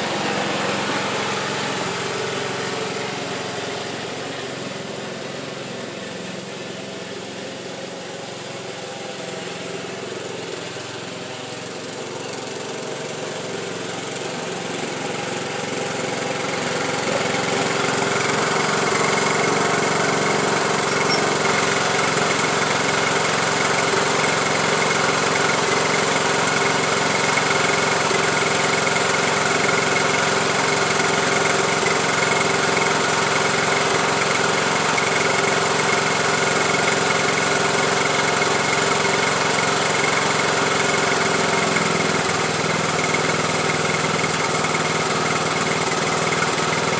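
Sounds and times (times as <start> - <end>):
riding mower engine running: 0.0 - 46.9.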